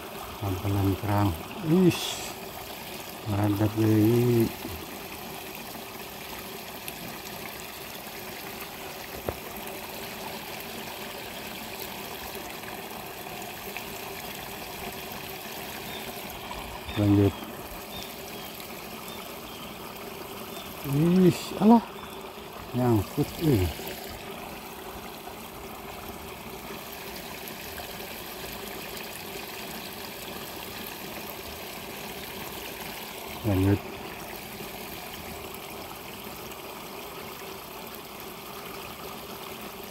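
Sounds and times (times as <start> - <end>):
water trickling in ditch: 0.0 - 39.9.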